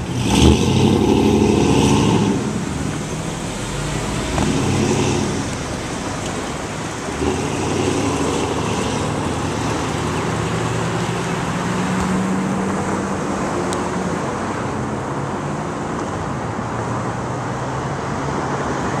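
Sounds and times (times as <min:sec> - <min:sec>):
low engine hum: 0:00.0 - 0:16.1
cars driving past: 0:00.0 - 0:19.0.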